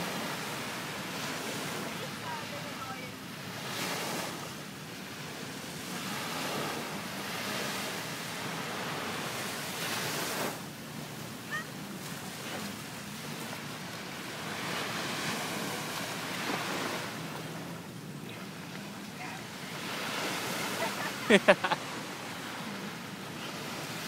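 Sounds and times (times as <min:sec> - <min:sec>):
waves washing on a shore: 0:00.0 - 0:24.0.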